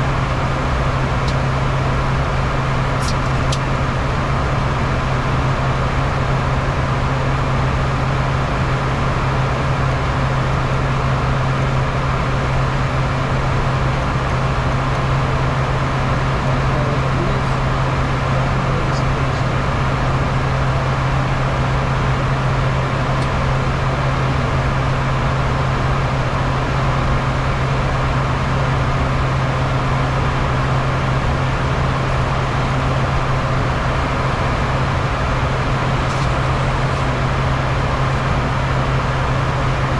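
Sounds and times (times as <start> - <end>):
airflow and jet engine noise: 0.0 - 39.9
jet cabin hum: 0.0 - 39.9.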